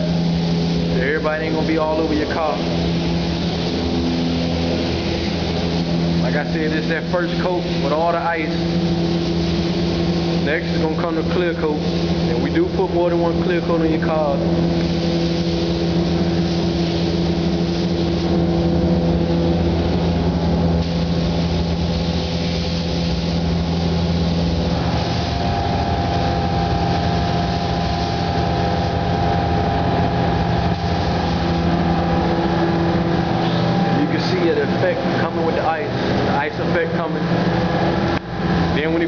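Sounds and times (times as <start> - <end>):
paint spraying hiss: 0.0 - 38.8
machinery hum: 0.0 - 39.0.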